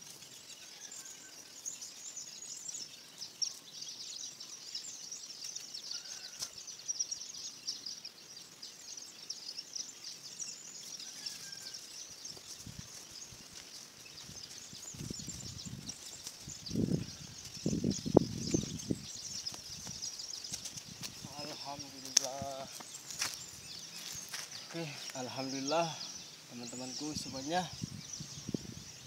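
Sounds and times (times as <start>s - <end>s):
chorus of rapid chirping: 0.0s - 29.0s.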